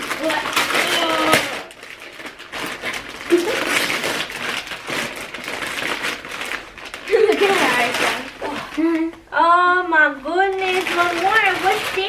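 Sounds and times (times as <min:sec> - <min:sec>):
wrapping paper rustling and tearing: 0:00.0 - 0:12.0.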